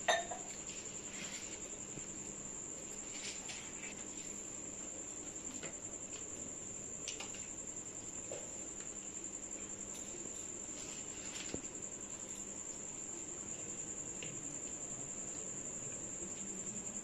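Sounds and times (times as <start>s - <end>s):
cricket trilling: 0.0s - 17.0s.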